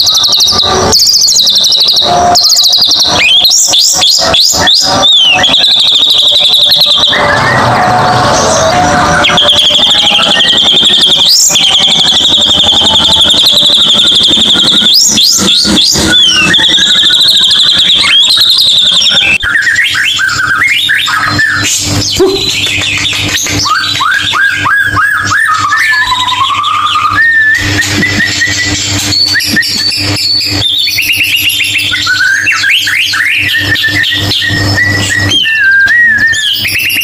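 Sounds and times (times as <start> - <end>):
recorded songbird singing: 0.0 - 37.0.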